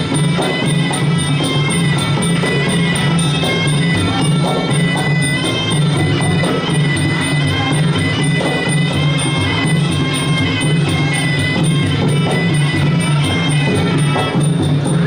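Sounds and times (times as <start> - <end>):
drums: 0.0 - 15.0
oboe wailing melody: 0.0 - 15.0
small cymbals: 0.0 - 15.0.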